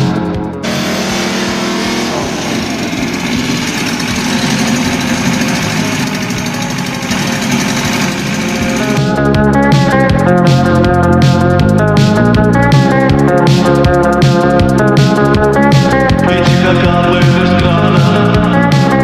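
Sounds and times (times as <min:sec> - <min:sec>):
guitar music: 0:00.0 - 0:19.0
unmuffled car engine running: 0:00.0 - 0:19.0.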